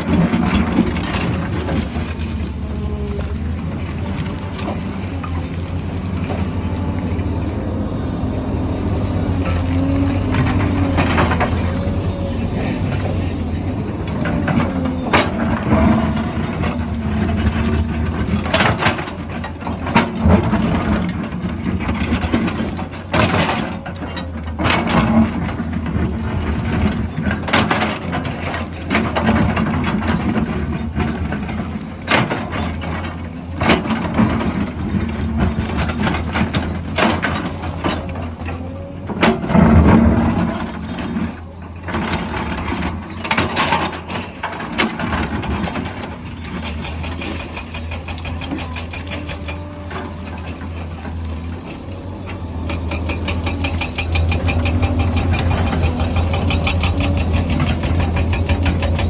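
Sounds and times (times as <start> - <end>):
diesel engine running: 0.0 - 59.0
digging knocks and clatter: 0.0 - 59.0.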